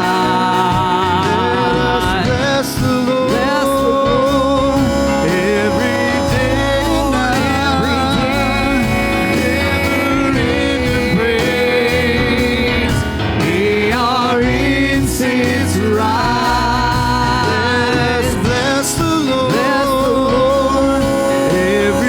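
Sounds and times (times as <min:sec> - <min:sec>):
gospel band playing: 0:00.0 - 0:22.0
steady bass line: 0:00.0 - 0:22.0.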